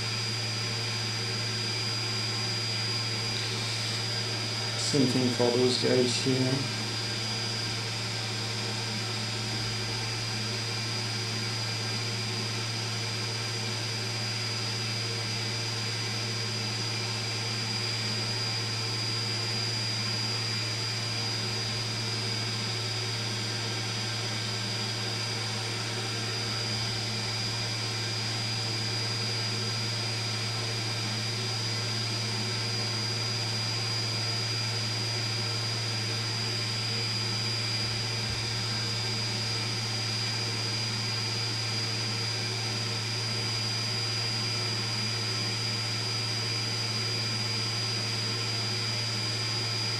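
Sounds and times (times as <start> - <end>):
extractor fan whirring: 0.0 - 49.9.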